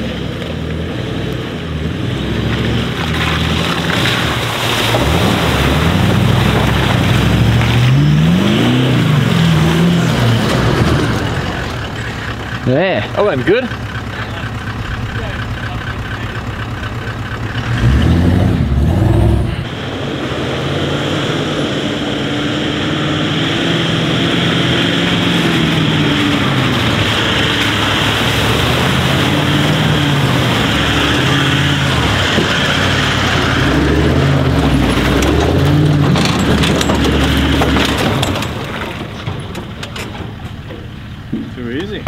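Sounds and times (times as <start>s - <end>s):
vehicle engine revving under load: 0.0s - 39.8s.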